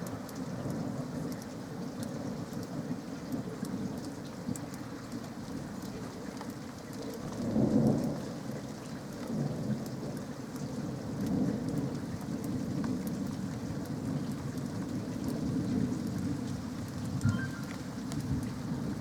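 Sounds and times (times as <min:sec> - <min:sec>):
raindrop ticks: 0:00.0 - 0:19.0
steady rain falling: 0:00.0 - 0:19.0.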